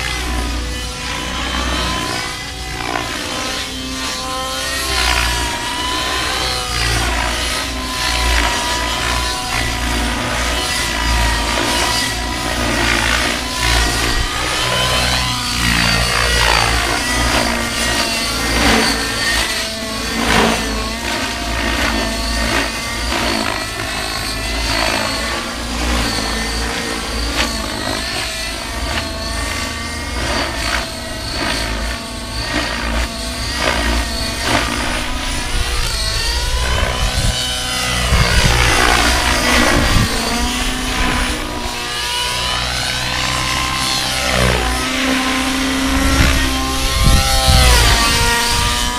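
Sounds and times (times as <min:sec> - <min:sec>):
model helicopter engine whining: 0:00.0 - 0:48.9
rotor blades swishing: 0:00.0 - 0:48.9.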